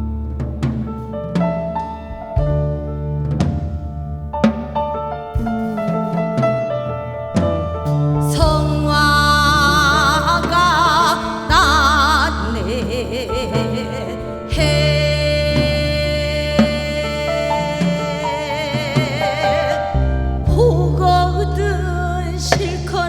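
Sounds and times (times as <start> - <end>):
sustained bass: 0.0 - 23.0.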